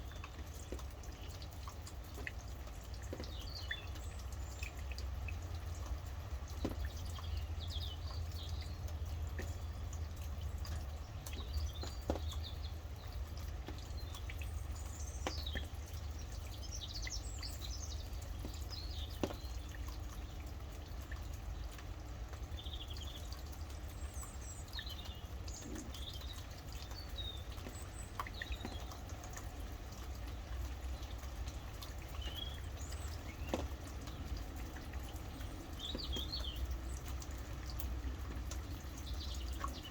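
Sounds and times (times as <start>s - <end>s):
rain dripping: 0.0s - 39.9s.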